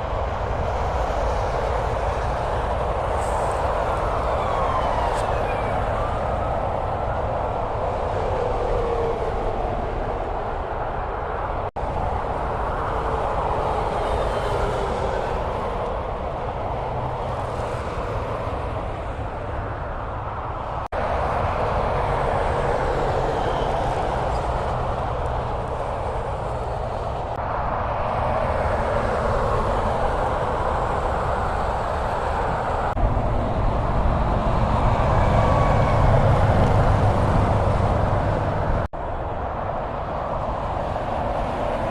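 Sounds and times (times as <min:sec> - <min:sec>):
highway traffic: 0:00.0 - 0:41.9.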